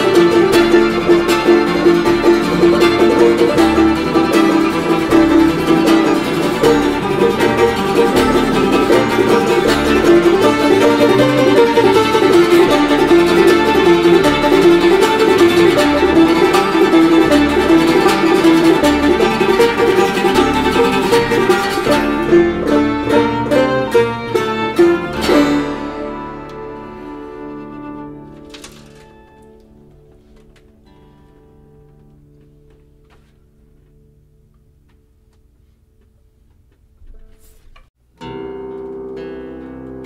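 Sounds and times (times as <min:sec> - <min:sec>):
acoustic folk instrumental music: 0:00.0 - 0:40.0.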